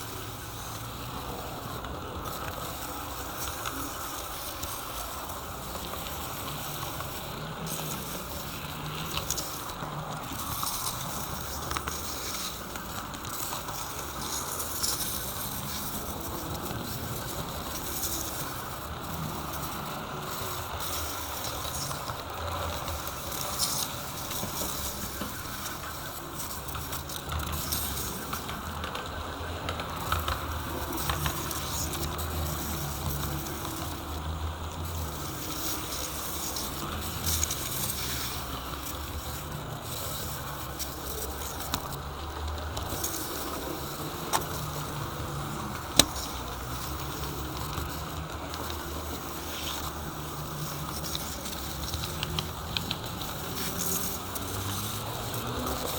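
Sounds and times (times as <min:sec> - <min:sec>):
model train clicks: 0:00.0 - 0:55.9
model train wheels and motor whirring: 0:00.0 - 0:55.9.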